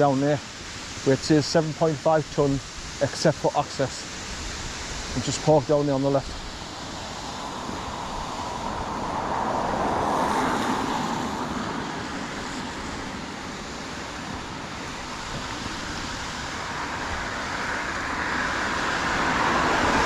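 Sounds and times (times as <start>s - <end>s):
cars passing: 0.0s - 20.0s
stream water rushing: 0.0s - 20.0s.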